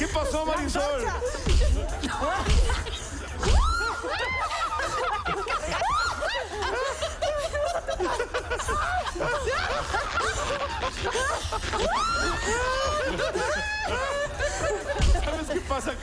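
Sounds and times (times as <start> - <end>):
music playing: 0.0 - 16.0
people laughing and giggling: 0.0 - 16.0.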